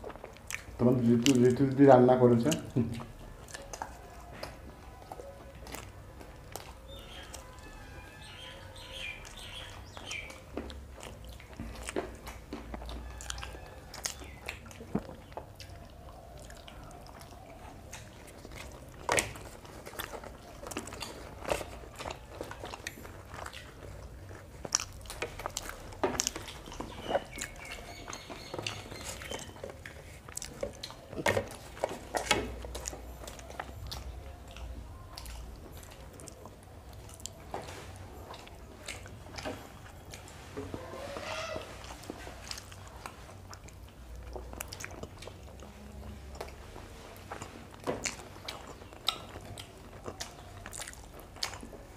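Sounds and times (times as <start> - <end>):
close chewing and biting: 0.0 - 51.9.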